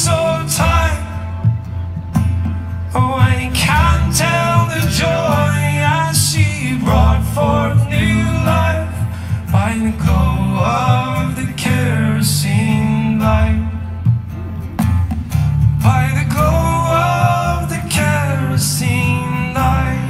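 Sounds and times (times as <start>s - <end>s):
folk band playing live: 0.0s - 20.0s.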